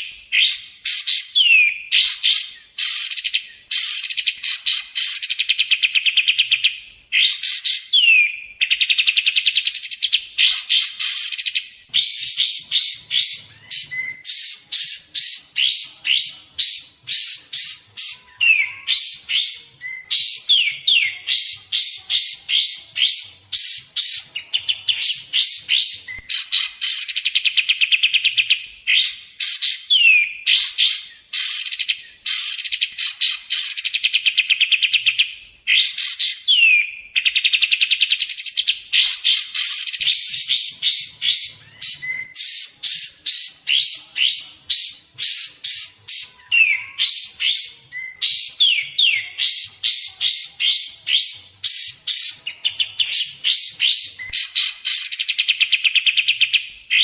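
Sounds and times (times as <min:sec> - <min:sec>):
downslurred bird whistle: 0:00.0 - 0:57.0.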